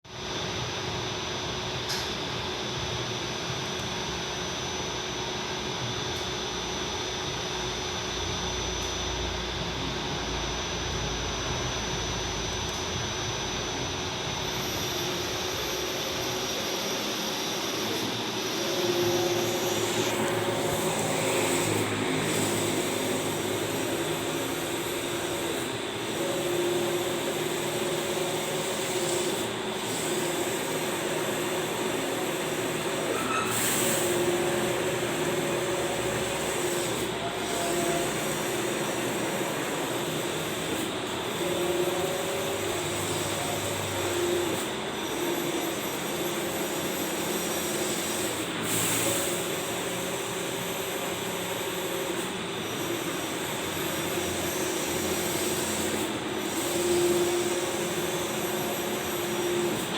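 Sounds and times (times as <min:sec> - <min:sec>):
print-head carriage motor whine: 0:00.1 - 0:59.9
printer machine hum: 0:01.6 - 0:59.9.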